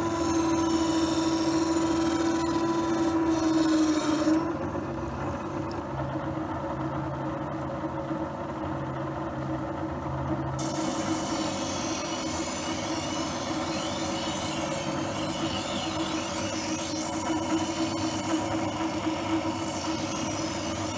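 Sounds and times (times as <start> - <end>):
motor humming: 0.0 - 20.9.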